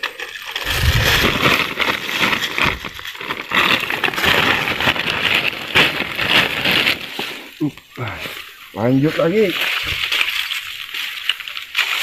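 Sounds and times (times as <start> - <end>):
close rustling and crackling: 0.0 - 12.0.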